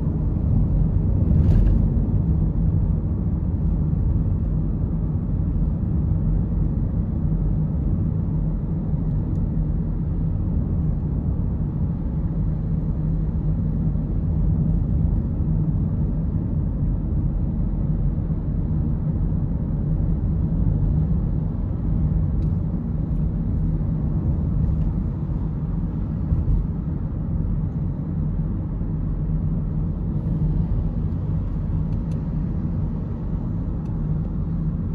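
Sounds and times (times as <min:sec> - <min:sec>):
car cabin road rumble: 0:00.0 - 0:34.9.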